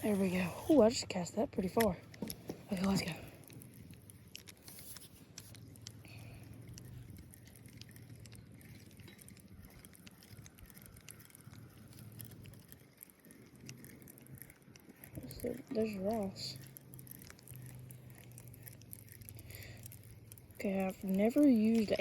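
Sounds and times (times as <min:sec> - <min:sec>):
fishing reel whirring: 0:00.0 - 0:01.0, 0:02.2 - 0:22.0
small reel ticks: 0:00.0 - 0:22.0.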